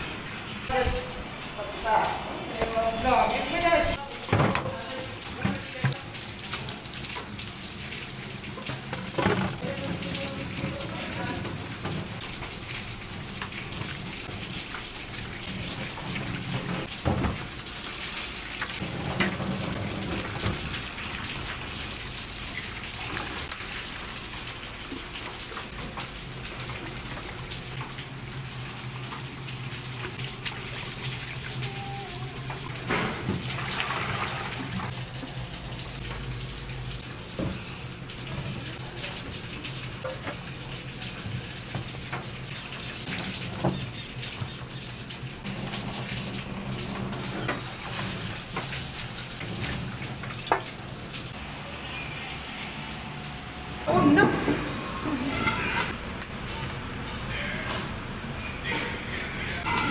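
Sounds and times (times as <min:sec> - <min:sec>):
tap water running into sink: 0:02.6 - 0:51.4.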